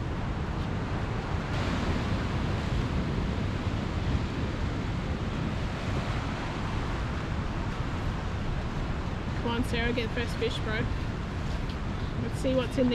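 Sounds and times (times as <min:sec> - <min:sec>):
seawater washing and surging: 0:00.0 - 0:12.9
wind rumbling on microphone: 0:00.0 - 0:12.9.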